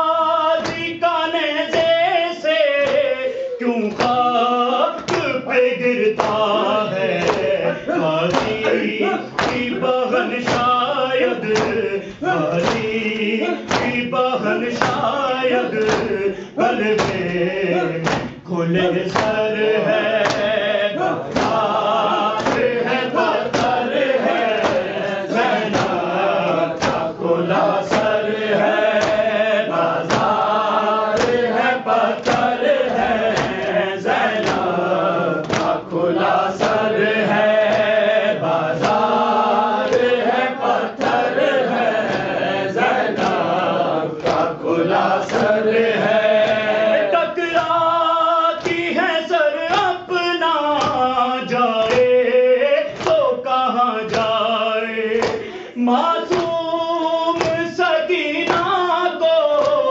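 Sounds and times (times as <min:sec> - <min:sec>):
sharp rhythmic beats: 0:00.0 - 0:59.9
voices chanting a lament: 0:00.0 - 0:59.9.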